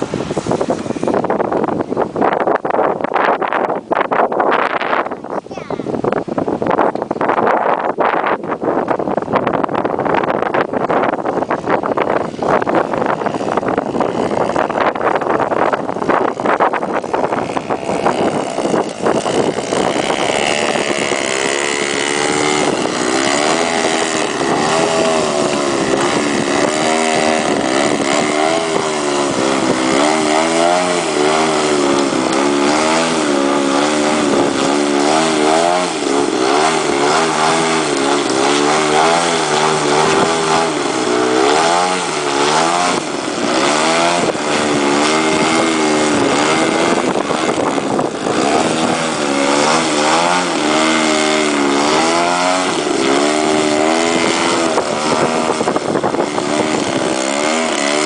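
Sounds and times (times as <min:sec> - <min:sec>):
model aircraft engine buzzing: 0:00.0 - 0:58.0.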